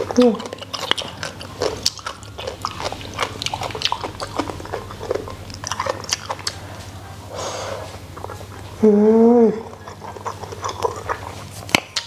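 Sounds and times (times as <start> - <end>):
person chewing food: 0.0 - 8.8, 9.5 - 12.0.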